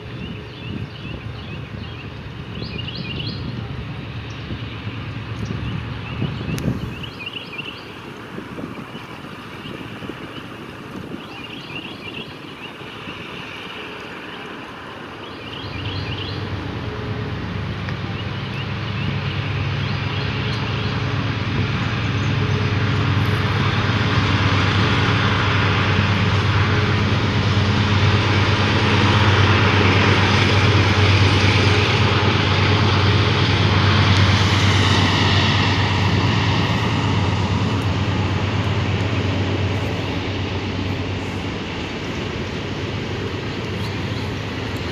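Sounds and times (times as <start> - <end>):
diesel locomotive engine drone: 0.0 - 44.9
train rolling noise: 0.0 - 44.9.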